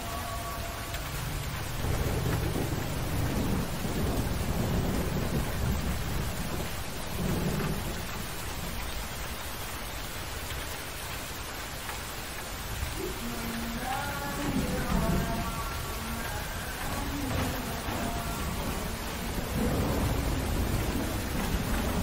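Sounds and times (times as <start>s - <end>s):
steady rain: 0.0s - 22.0s
low rumbles of thunder: 0.7s - 10.6s, 12.7s - 22.0s.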